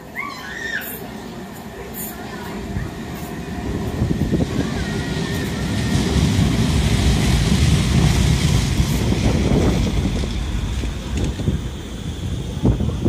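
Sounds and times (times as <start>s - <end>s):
tram wheels rumbling on rails: 0.0s - 13.0s
wind buffeting microphone: 2.4s - 13.0s.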